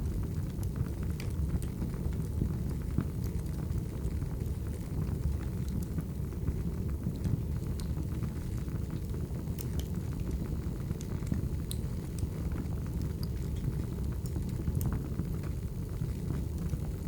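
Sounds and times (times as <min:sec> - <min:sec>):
wood fire burning: 0:00.0 - 0:17.0
logs crackling and popping: 0:00.2 - 0:17.0.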